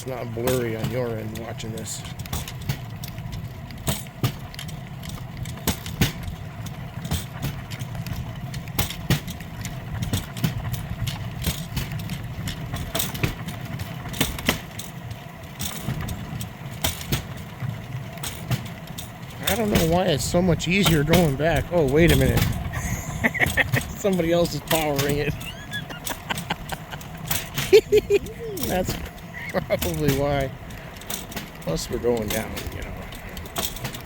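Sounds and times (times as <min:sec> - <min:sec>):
cart frame rattling: 0:00.0 - 0:34.0
steel wheels rumbling on rails: 0:00.0 - 0:34.0
wheels clicking and clacking: 0:00.0 - 0:34.0.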